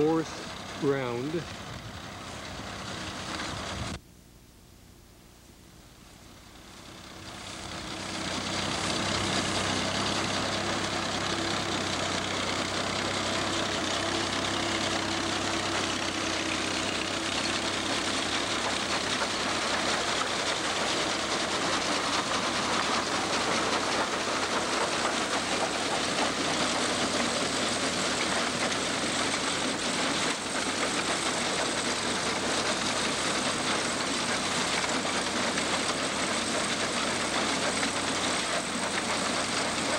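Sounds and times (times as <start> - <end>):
tractor engine running: 0.0 - 4.0, 5.8 - 39.9.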